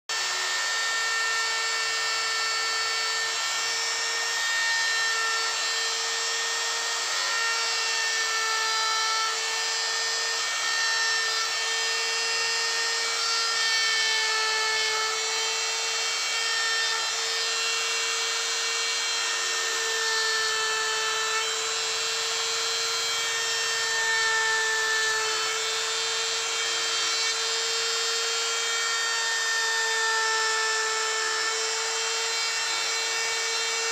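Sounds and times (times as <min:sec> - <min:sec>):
power tool cutting wood: 0:00.1 - 0:33.9.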